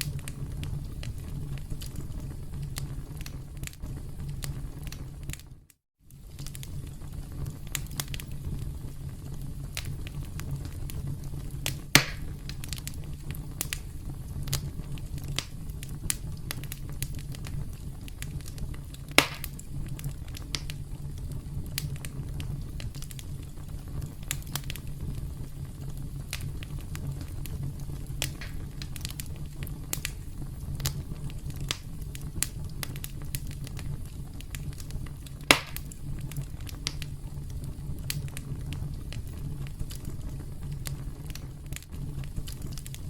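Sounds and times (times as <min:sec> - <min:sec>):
campfire crackling: 0:00.0 - 0:43.0
fire pops: 0:00.0 - 0:43.0.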